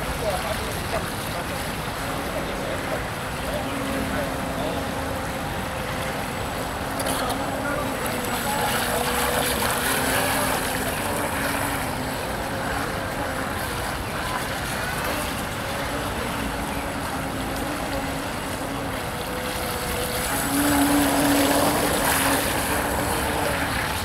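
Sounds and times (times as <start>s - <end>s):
water spray rushing: 0.0s - 24.0s
wind: 0.0s - 24.0s
electric motor whine: 1.8s - 24.0s.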